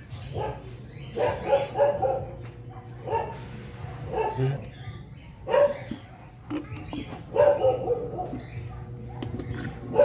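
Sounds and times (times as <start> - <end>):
dog barking: 0.2 - 4.6, 5.4 - 6.5, 7.3 - 10.0.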